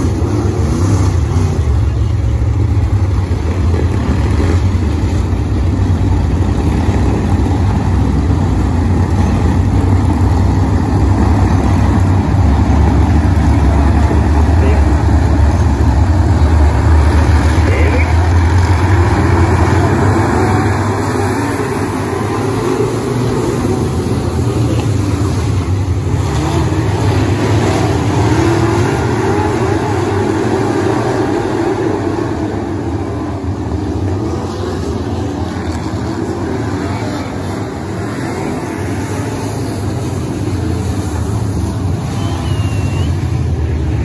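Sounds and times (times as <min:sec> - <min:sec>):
race car engines droning: 0:00.0 - 0:44.0.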